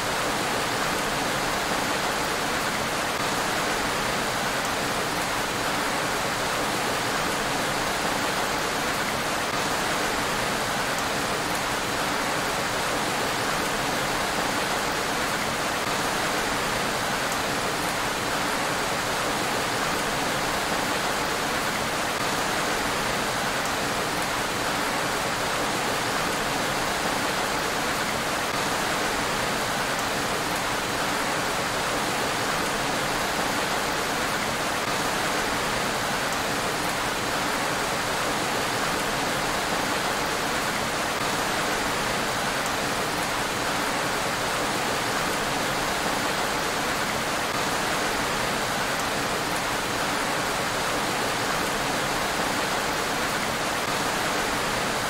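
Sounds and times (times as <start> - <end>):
rain falling on road: 0.0 - 55.0.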